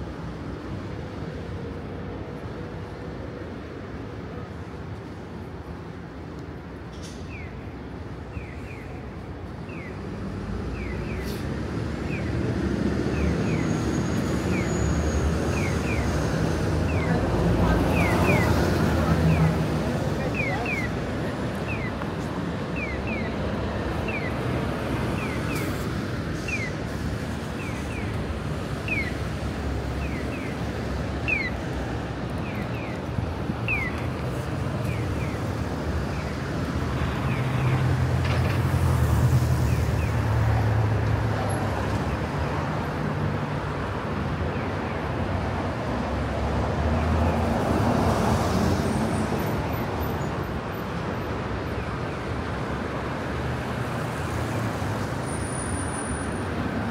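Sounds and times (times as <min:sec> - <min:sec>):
city street traffic: 0:00.0 - 0:56.9.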